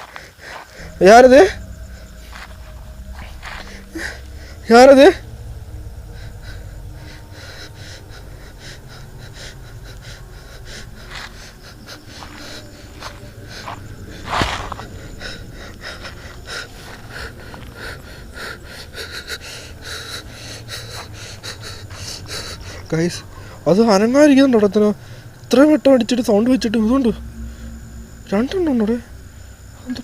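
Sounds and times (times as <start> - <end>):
person breathing: 0.0 - 23.7, 27.2 - 28.2.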